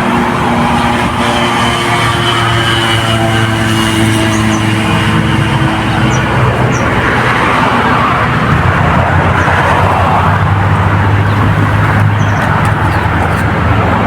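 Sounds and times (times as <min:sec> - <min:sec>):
road traffic: 0:00.0 - 0:14.0
vehicle hum and tyre noise: 0:00.0 - 0:14.0.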